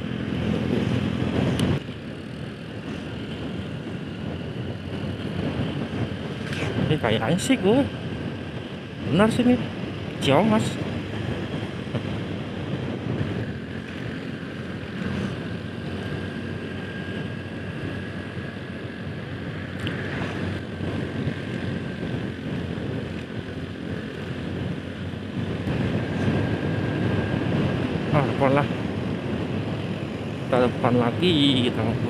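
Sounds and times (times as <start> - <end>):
road noise: 0.0 - 32.0
wind rushing over microphone: 0.0 - 32.0.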